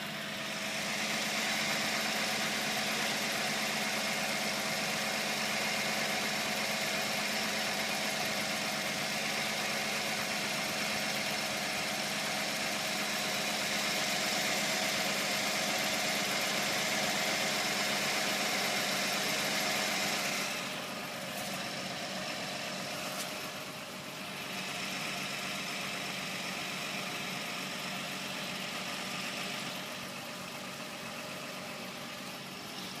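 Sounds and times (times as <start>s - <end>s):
car engine idling with rattling: 0.0s - 33.0s.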